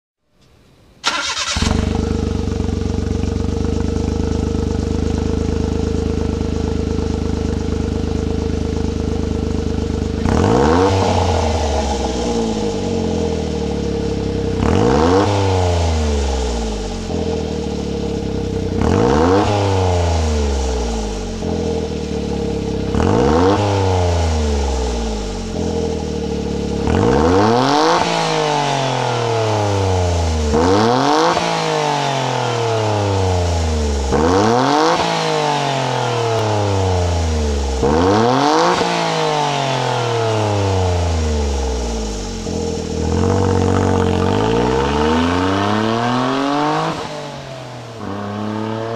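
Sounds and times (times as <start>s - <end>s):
car engine idling and revving: 1.0s - 48.9s.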